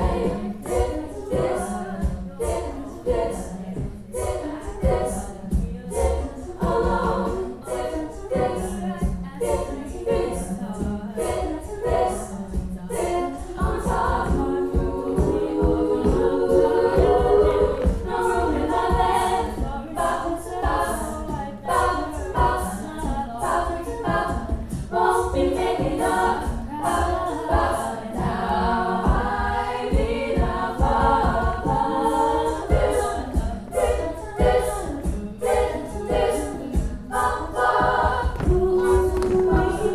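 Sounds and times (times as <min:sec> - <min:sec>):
a cappella group singing harmony: 0:00.0 - 0:39.9
beatboxed vocal percussion: 0:00.0 - 0:39.9.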